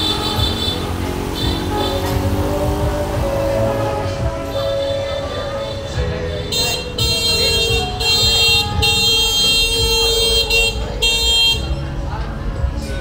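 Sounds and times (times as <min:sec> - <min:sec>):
motorbike horn honking: 0:00.0 - 0:11.8
busy street noise: 0:00.0 - 0:13.0.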